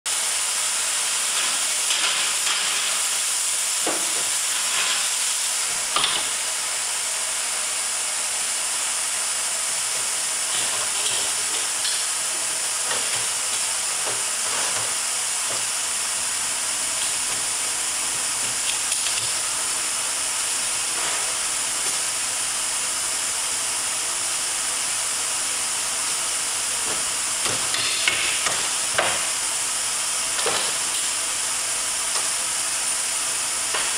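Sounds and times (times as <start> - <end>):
steam hissing: 0.1 - 33.9.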